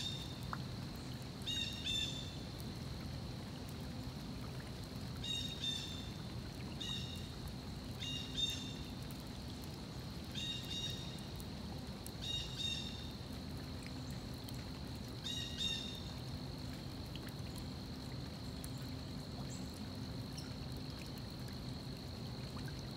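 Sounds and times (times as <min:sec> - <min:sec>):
stream flowing: 0:00.0 - 0:22.9.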